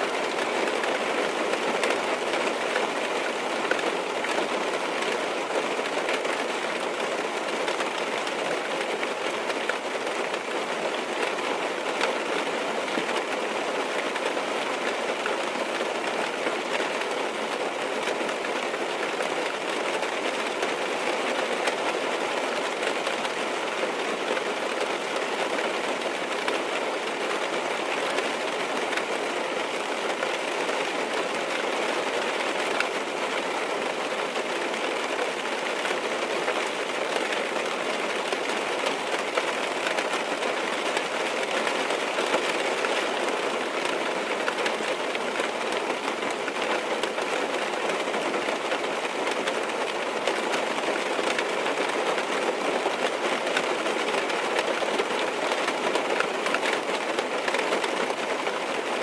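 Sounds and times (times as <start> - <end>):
rain on a car: 0.0 - 59.0.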